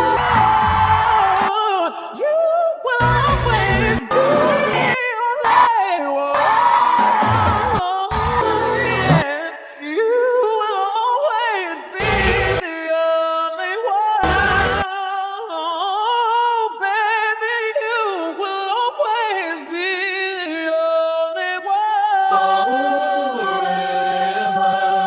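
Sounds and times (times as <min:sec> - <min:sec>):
woman singing with vibrato: 0:00.0 - 0:21.6, 0:22.2 - 0:25.0.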